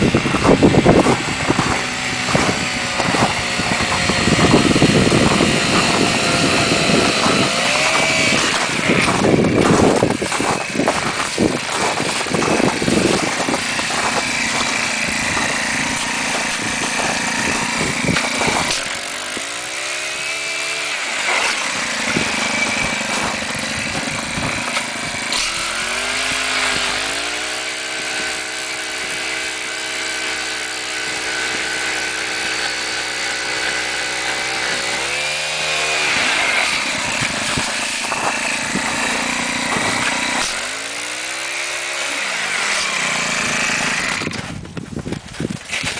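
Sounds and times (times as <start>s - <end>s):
small gas engine revving: 0.0s - 45.9s.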